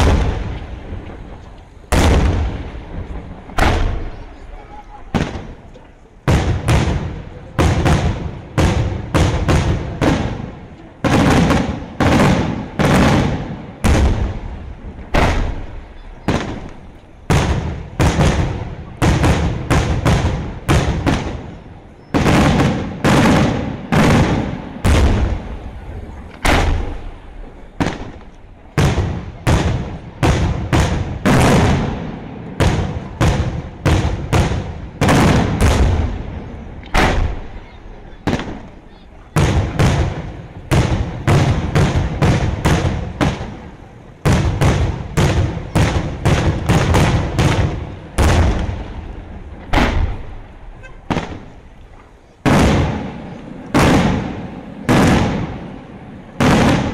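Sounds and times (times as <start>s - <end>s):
firework bangs with echo: 0.0s - 56.9s.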